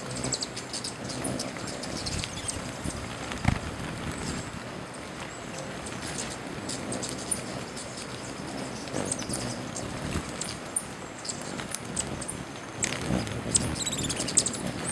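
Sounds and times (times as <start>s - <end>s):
whir of hummingbird wingbeats: 0.0s - 14.9s.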